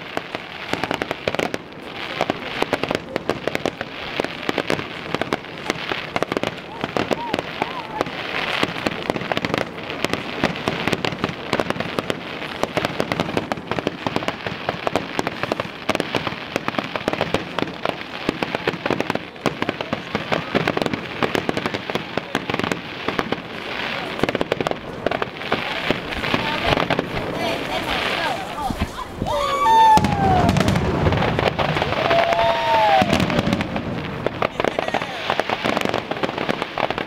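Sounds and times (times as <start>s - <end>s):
fireworks cracking and banging: 0.0s - 37.0s.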